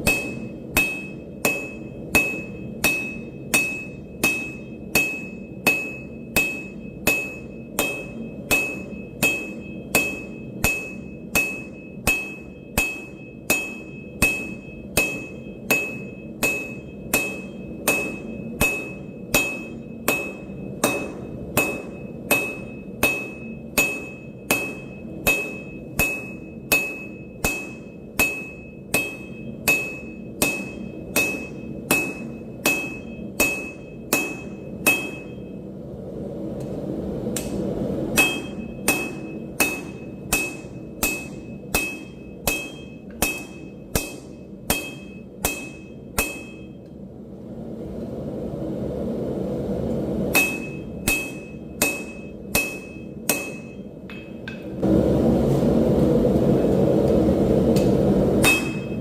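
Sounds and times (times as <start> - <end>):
hammer striking steel on anvil: 0.0 - 35.6, 37.4 - 47.0, 50.3 - 54.9, 57.8 - 59.0
steady low drone: 0.0 - 59.0.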